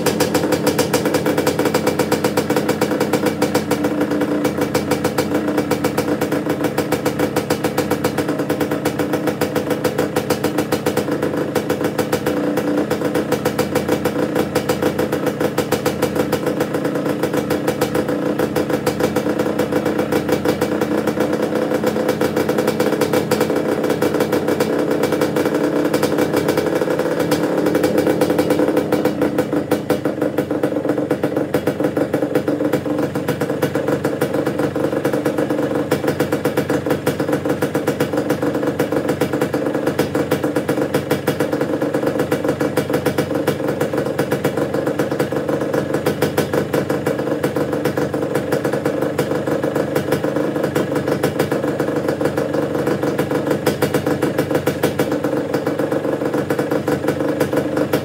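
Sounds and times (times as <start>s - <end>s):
two-stroke engine idling: 0.0s - 58.0s.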